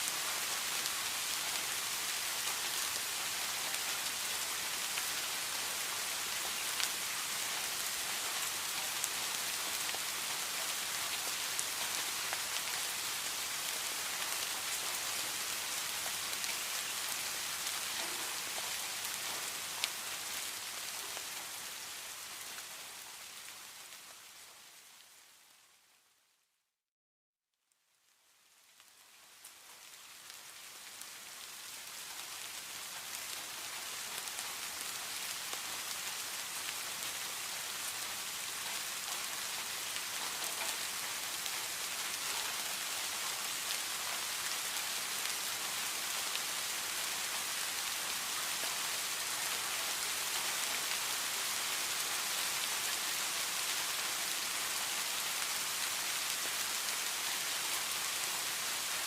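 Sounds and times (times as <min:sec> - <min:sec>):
steady rain falling: 0:00.0 - 0:26.4, 0:27.7 - 0:59.0.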